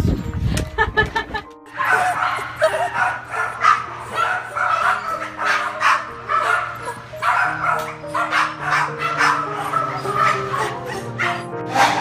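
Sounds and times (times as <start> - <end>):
background music: 0.0 - 12.0
dogs barking and yipping: 1.6 - 12.0.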